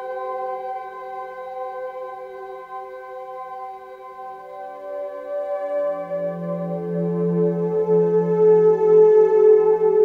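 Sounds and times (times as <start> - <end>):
ambient synth music: 0.0 - 10.0.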